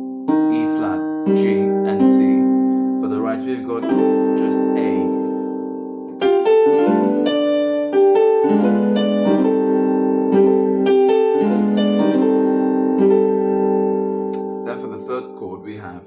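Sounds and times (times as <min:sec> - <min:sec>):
keyboard playing held chords: 0:00.0 - 0:16.0.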